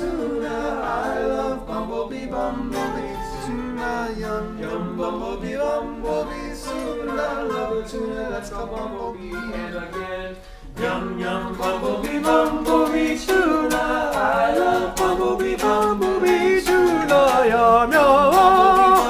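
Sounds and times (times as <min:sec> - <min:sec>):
voices singing in harmony: 0:00.0 - 0:19.0.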